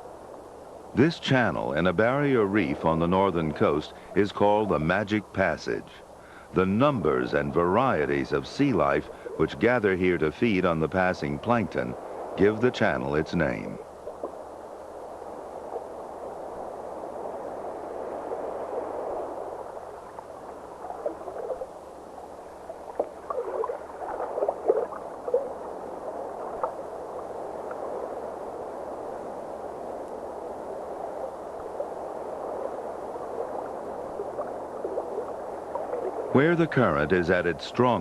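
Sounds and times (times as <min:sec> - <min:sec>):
rushing water with gurgling bubbles: 0:00.0 - 0:38.0.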